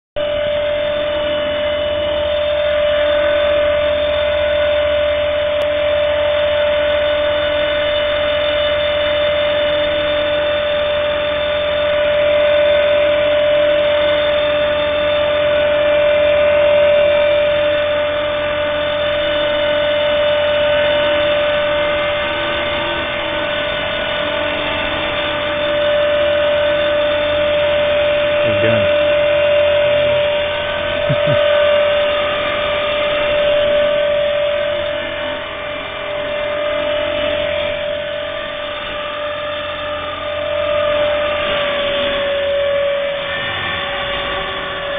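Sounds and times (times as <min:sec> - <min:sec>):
model helicopter hovering: 0:00.2 - 0:44.9.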